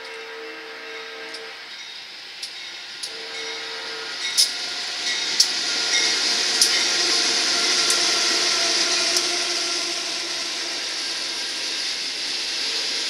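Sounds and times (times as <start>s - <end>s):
train horn note: 0.0s - 1.7s, 3.0s - 13.0s
freight locomotives rumbling past: 0.0s - 13.0s.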